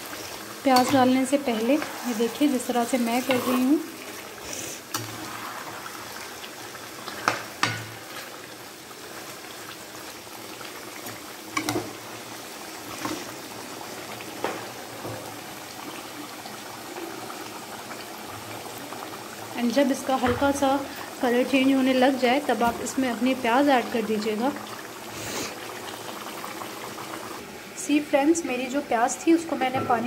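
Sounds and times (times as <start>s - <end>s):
chicken sizzling in hot oil: 0.0s - 30.0s.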